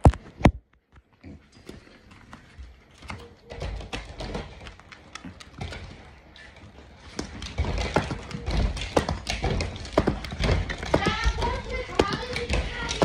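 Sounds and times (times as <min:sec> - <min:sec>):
dog claws clicking on floor: 0:00.0 - 0:13.0.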